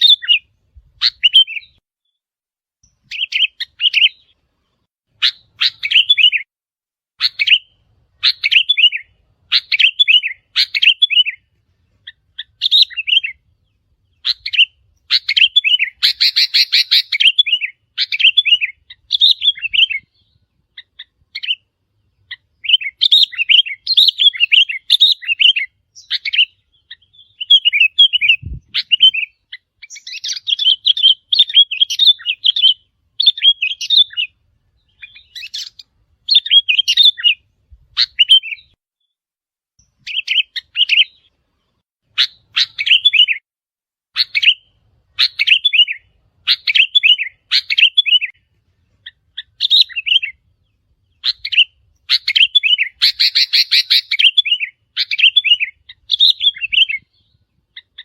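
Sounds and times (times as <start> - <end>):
bulbul chirping song: 0.0 - 2.2, 2.8 - 6.5, 7.2 - 39.1, 39.8 - 43.4, 44.1 - 58.0.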